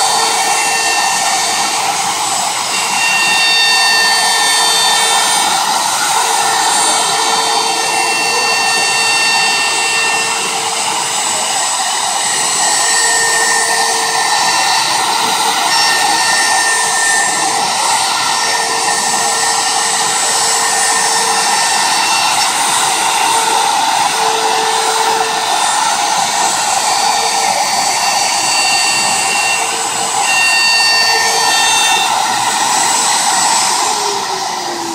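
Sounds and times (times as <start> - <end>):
electric router motor whining: 0.0 - 34.9
router bit cutting wood: 0.0 - 34.9.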